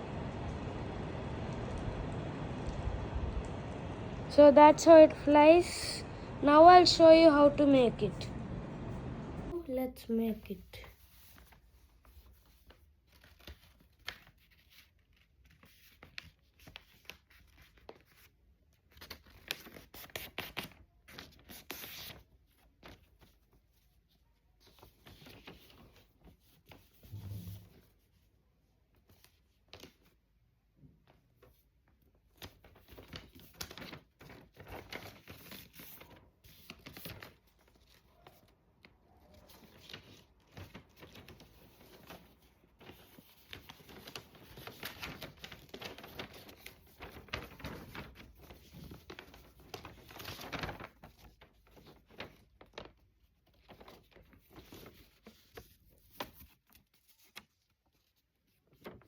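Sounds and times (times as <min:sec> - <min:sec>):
paper rustling and crinkling: 0:10.8 - 0:30.4, 0:31.0 - 0:59.0.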